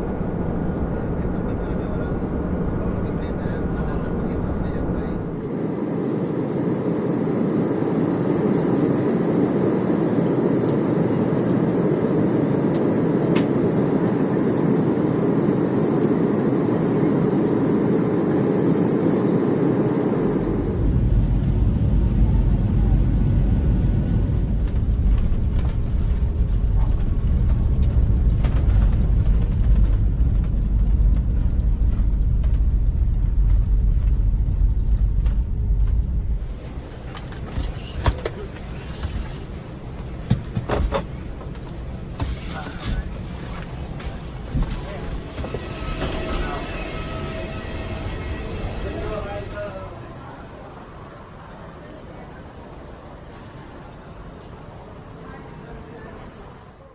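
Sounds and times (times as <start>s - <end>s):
aircraft cabin engine noise: 0.0s - 51.6s.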